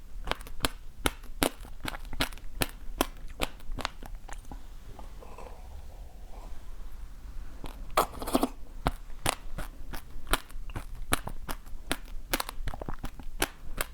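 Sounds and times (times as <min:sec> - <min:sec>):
crunchy chewing: 0:00.3 - 0:06.7, 0:07.6 - 0:13.9.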